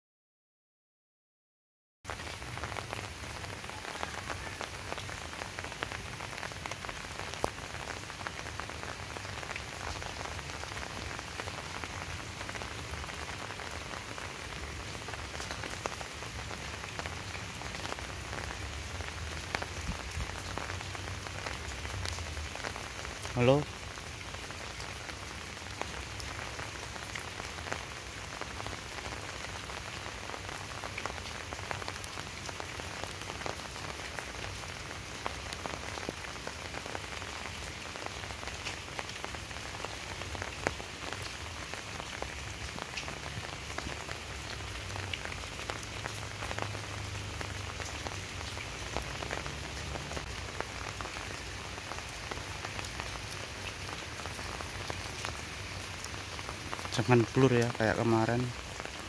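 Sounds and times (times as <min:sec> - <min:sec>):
steady rain falling: 0:02.1 - 0:59.0.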